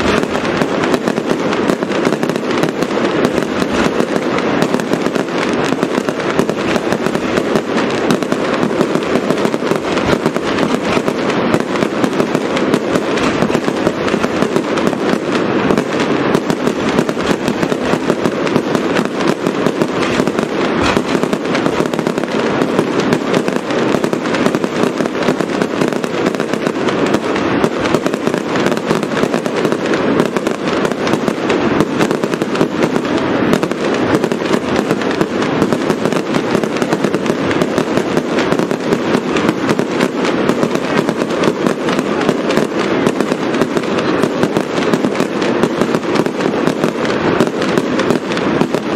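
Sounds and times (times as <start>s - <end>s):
fireworks crackling and popping: 0.0s - 48.9s.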